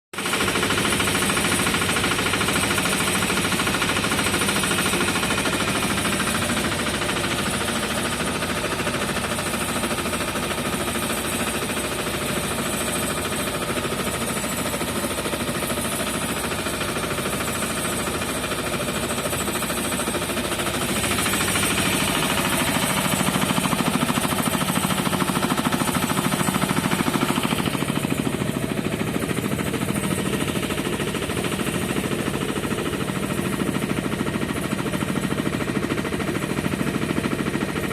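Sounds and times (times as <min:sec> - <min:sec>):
engine running with knocking pulse: 0:00.2 - 0:37.9.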